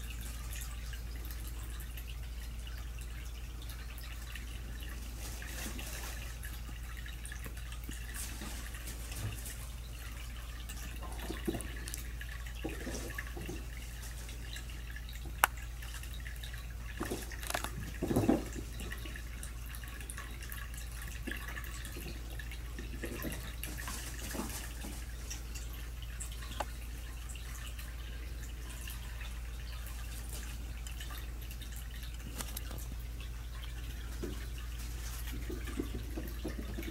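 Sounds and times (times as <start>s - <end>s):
faint rustles and ticks: 0.0s - 36.9s.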